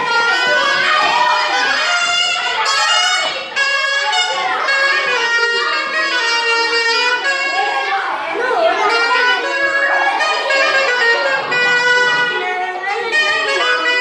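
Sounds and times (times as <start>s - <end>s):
reed wind instruments playing: 0.0s - 14.0s.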